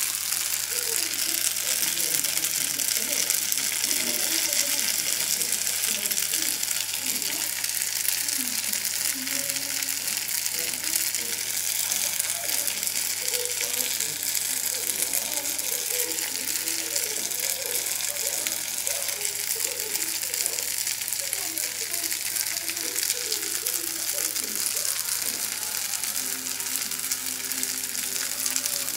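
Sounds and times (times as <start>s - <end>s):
sausages sizzling in a pan: 0.0s - 28.9s.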